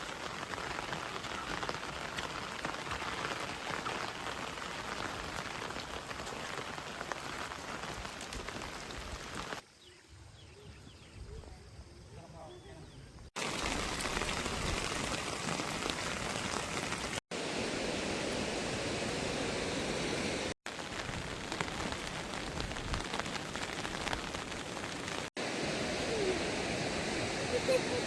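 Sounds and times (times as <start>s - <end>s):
steady rain falling: 0.0s - 9.6s, 13.4s - 28.0s.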